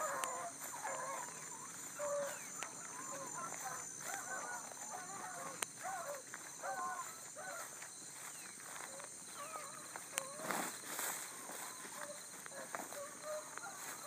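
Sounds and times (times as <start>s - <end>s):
hounds baying: 0.0s - 14.0s
rustle of brush: 0.0s - 14.0s.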